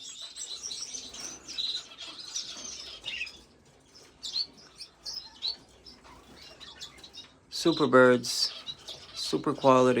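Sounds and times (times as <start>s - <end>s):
canaries chirping and trilling: 0.0s - 10.0s.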